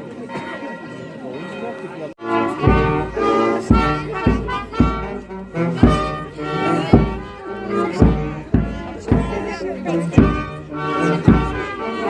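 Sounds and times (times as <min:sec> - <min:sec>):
brass band playing a march: 0:02.2 - 0:12.0.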